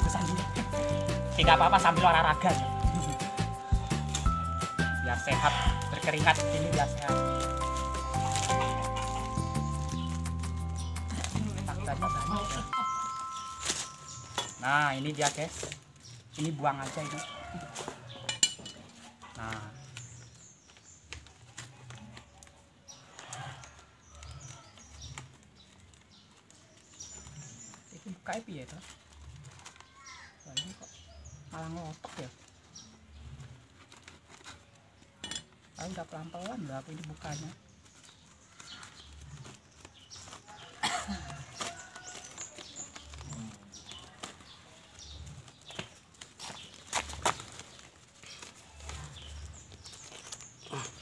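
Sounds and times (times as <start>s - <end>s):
packaging rustling and clicking: 0.0s - 31.0s, 31.7s - 51.0s
plastic wrapping crinkling: 0.0s - 51.0s.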